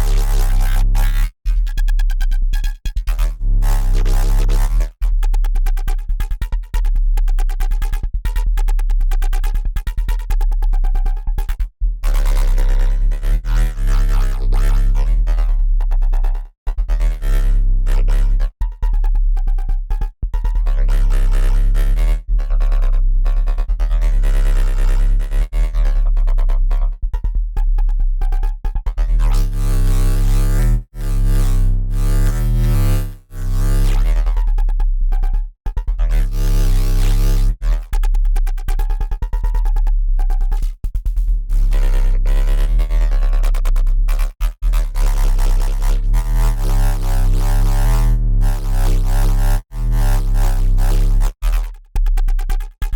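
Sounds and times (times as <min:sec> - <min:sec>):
heavy sub-bass: 0:00.0 - 0:52.9
synth bass riff: 0:00.0 - 0:52.9.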